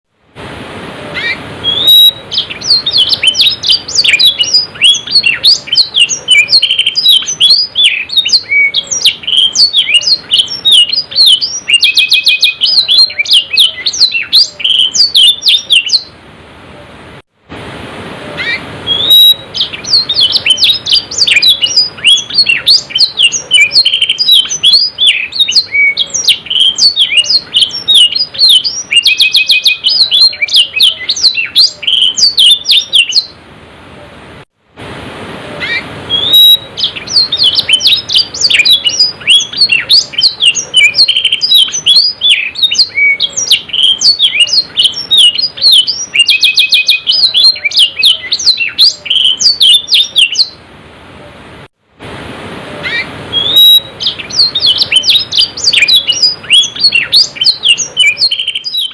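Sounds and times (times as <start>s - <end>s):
canary singing chirps and trills: 1.1s - 16.2s, 18.4s - 33.4s, 35.6s - 50.6s, 52.8s - 58.9s.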